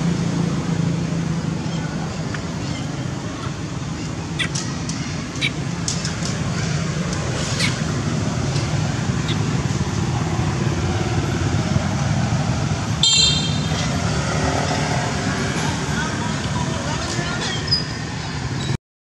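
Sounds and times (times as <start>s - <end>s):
motorbike traffic rumble: 0.0s - 18.8s.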